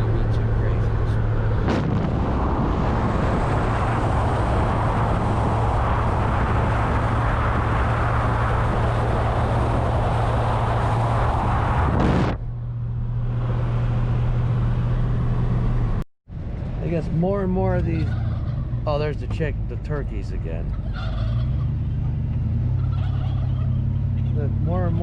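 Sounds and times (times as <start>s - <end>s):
road noise: 0.0s - 25.0s
vehicle engine drone: 0.0s - 25.0s.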